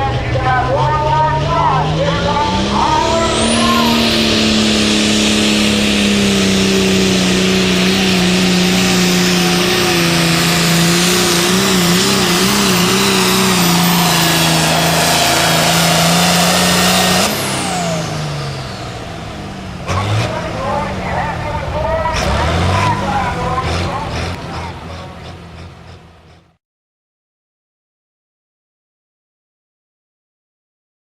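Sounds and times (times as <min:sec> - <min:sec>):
high turbo whine: 0:00.0 - 0:26.6
tractor engine at full throttle: 0:00.0 - 0:26.6.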